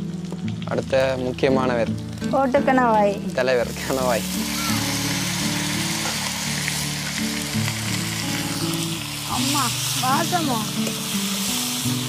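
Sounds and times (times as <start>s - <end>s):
background music: 0.0s - 12.0s
squid sizzling in hot oil: 0.0s - 12.0s.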